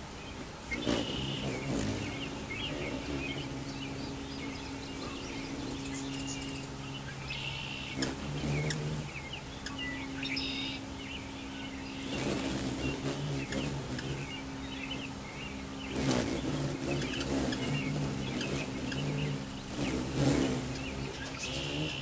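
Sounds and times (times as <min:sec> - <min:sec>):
hummingbirds chipping and squeaking: 0:00.0 - 0:22.0
low hum: 0:00.0 - 0:22.0.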